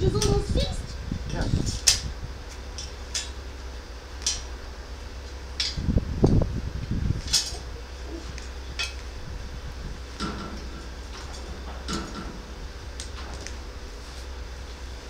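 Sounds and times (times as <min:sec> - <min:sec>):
welder cooling fan hum: 0:00.0 - 0:15.0.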